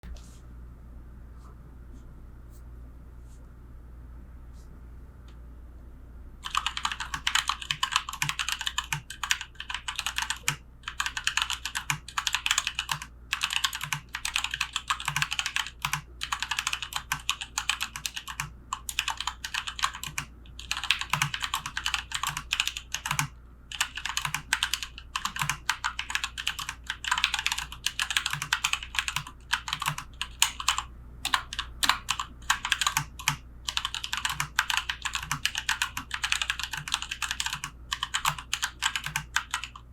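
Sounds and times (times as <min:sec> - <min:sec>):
mechanical keyboard typing: 0:06.4 - 0:39.9.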